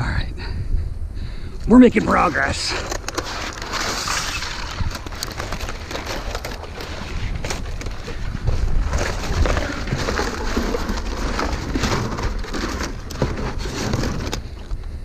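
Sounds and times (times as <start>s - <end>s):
wind rumble on microphone: 0.0s - 2.8s, 3.9s - 15.0s
crackling and rustling by hand: 1.6s - 14.9s.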